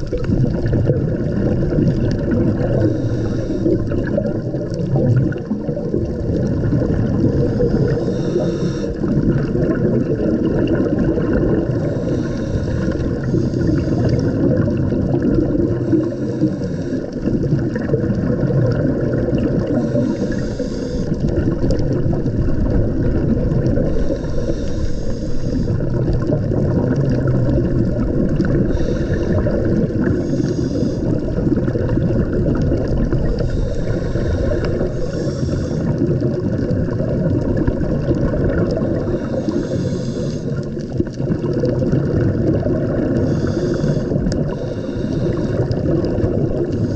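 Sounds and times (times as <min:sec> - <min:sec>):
scuba bubbles hissing: 0:00.0 - 0:46.9
underwater water rumble: 0:00.0 - 0:46.9.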